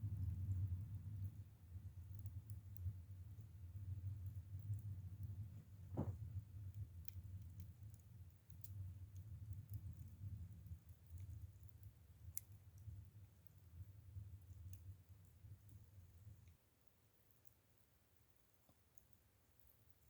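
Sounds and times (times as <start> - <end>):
embers ticking and popping: 0.0 - 20.0.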